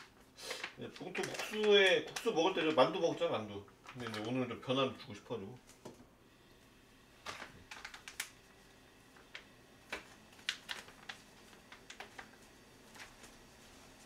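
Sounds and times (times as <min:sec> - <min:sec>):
plastic packaging crinkling: 0:00.0 - 0:05.0, 0:07.2 - 0:14.0.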